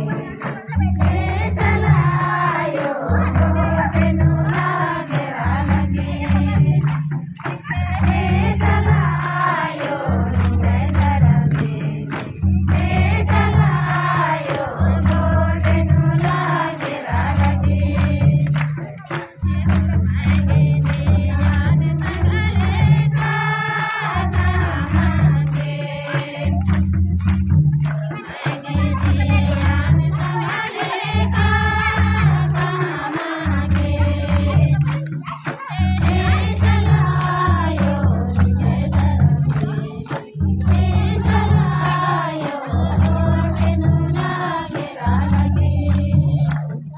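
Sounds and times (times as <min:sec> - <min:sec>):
group singing devotional song: 0:00.0 - 0:46.9
rattle or tambourine beat: 0:00.0 - 0:46.9.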